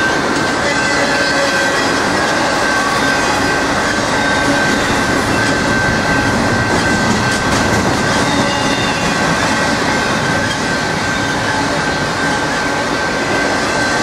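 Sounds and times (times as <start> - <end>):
train wheels on rails: 0.0 - 14.0
high-pitched wheel squeal: 1.5 - 14.0.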